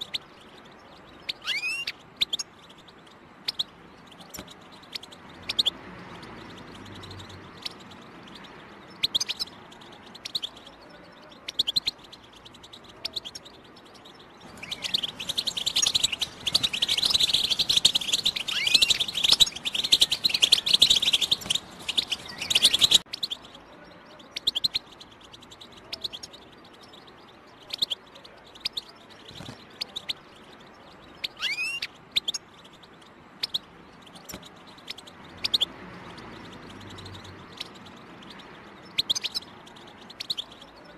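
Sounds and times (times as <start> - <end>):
bird chirps: 0.0 - 40.9
rapid bird twittering: 0.0 - 40.9.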